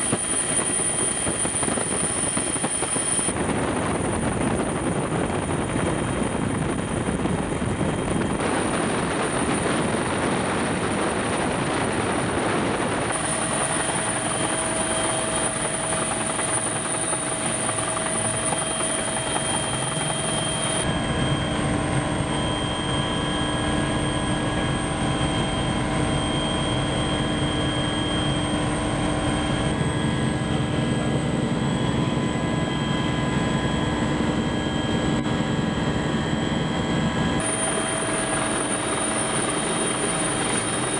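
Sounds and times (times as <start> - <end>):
helicopter engine and rotor: 0.0 - 40.9
steady high whine: 0.0 - 40.9.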